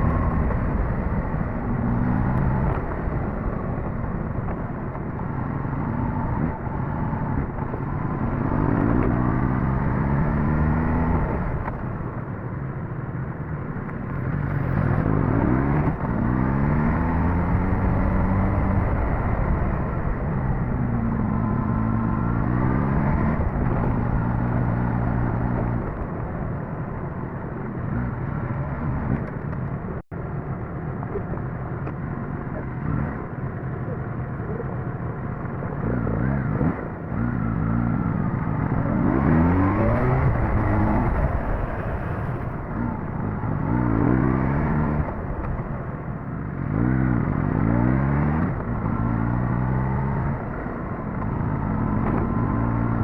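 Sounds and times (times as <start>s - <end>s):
motorcycle engine revving: 0.0s - 12.0s, 14.1s - 30.0s, 31.5s - 53.0s.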